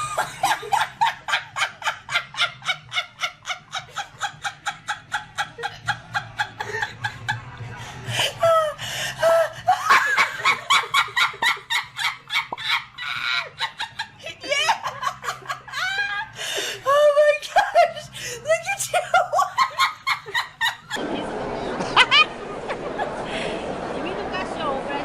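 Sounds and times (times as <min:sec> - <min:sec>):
rapid rhythmic laughing: 0:00.0 - 0:24.4.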